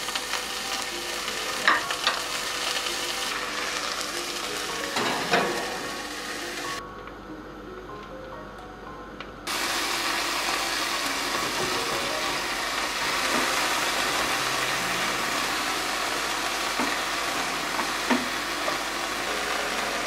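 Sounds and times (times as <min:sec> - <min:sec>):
vegetables sizzling in a frying pan: 0:00.0 - 0:06.8, 0:09.5 - 0:20.0.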